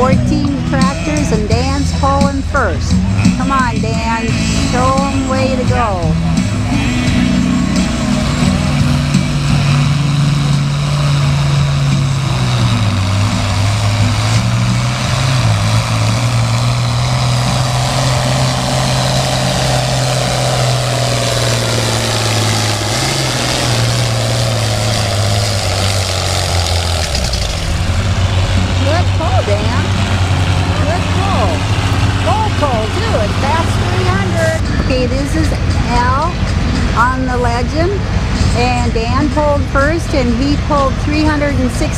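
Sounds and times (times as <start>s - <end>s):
tractor engine at full throttle: 0.0s - 41.9s.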